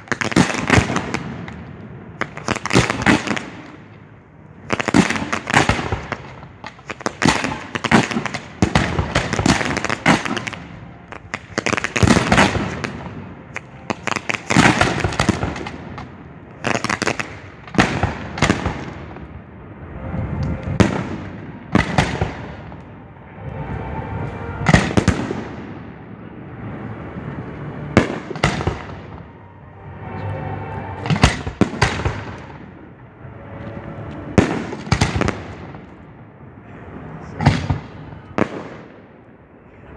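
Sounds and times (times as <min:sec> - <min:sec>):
loud fireworks booms: 0:00.0 - 0:03.9, 0:04.6 - 0:23.0, 0:23.6 - 0:26.3, 0:27.3 - 0:29.4, 0:31.0 - 0:32.8, 0:34.3 - 0:36.1, 0:37.3 - 0:39.2
fireworks crackling: 0:00.0 - 0:36.1.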